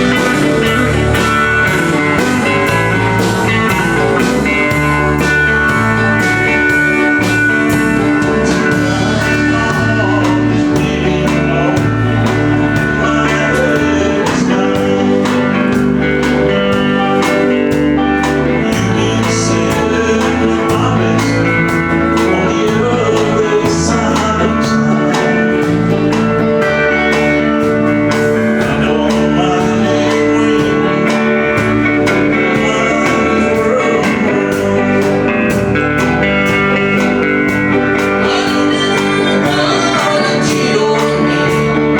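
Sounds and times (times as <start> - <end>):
live country band playing: 0.0 - 41.9.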